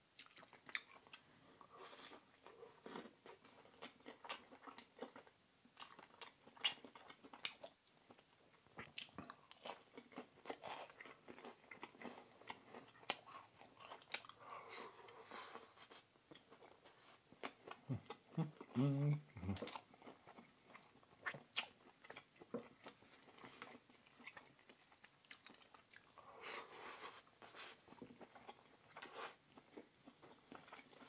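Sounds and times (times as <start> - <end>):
person chewing: 0.2 - 8.2, 8.8 - 31.0.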